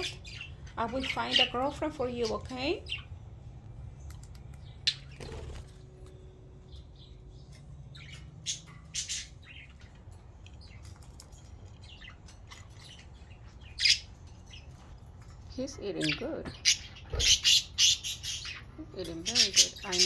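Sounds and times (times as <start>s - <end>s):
budgerigars chirping: 0.0s - 3.2s, 4.1s - 5.7s, 6.7s - 20.0s
faint low hum: 0.0s - 20.0s.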